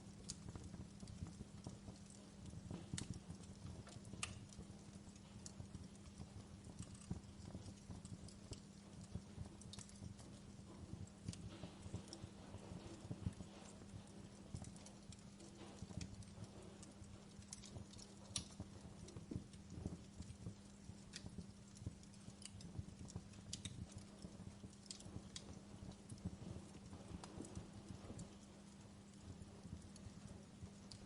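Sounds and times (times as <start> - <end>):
low fire rumble: 0.0 - 31.0
wood fire crackling: 0.0 - 31.0.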